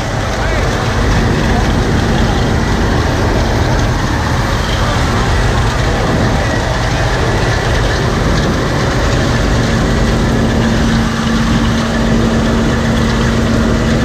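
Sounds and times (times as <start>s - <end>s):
heavy engine running: 0.0s - 14.0s
steady hum: 0.0s - 14.0s.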